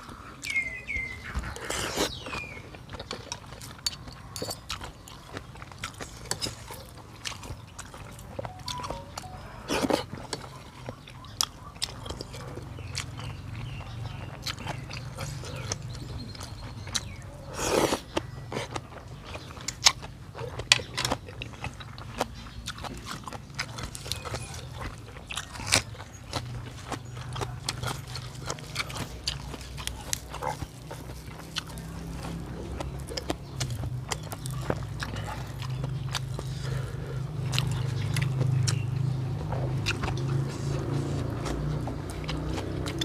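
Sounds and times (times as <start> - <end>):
wet chewing and smacking: 0.0 - 43.0.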